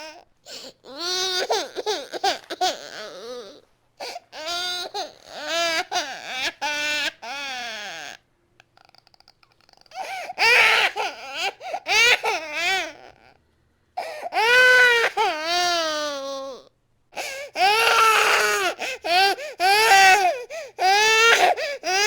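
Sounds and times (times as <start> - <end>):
baby crying: 0.0 - 8.2, 9.9 - 13.3, 14.0 - 22.0.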